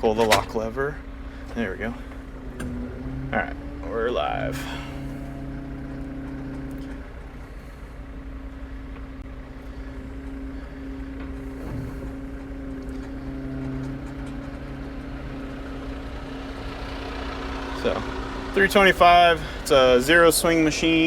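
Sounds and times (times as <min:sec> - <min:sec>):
excavator diesel engine idling: 0:00.0 - 0:21.0.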